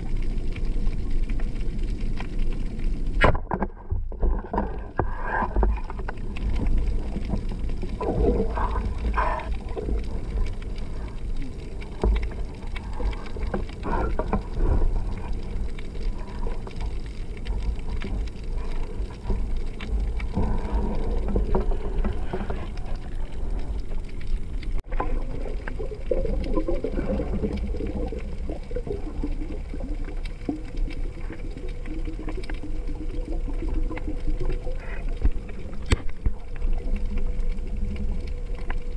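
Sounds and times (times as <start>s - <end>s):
muffled underwater rumble: 0.0s - 38.9s
water swishing and knocks: 0.0s - 38.9s.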